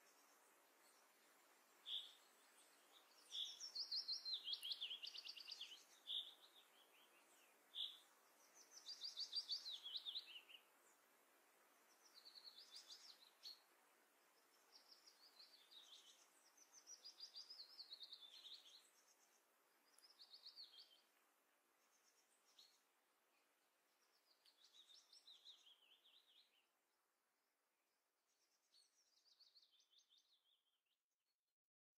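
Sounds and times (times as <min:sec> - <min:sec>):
songbird singing faintly: 0:00.0 - 0:31.0.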